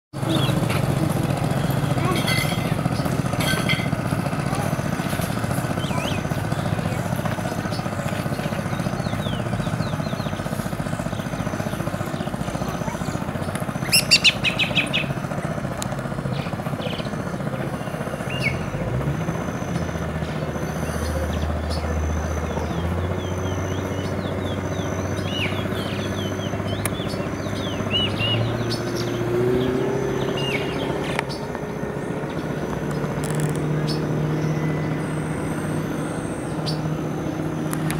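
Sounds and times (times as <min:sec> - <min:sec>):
birds chirping: 0:00.1 - 0:37.9
low motor hum: 0:00.2 - 0:37.9.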